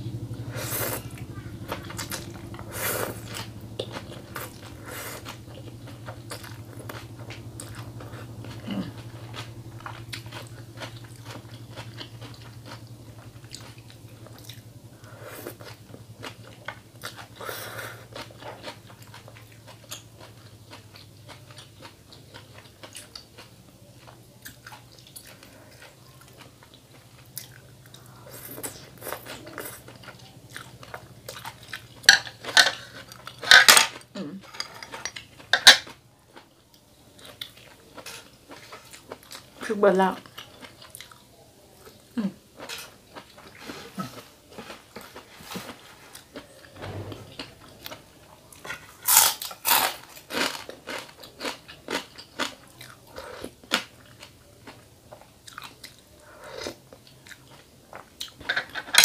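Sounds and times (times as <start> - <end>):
low steady hum: 0.0 - 59.0
chewing and mouth sounds: 0.3 - 59.0.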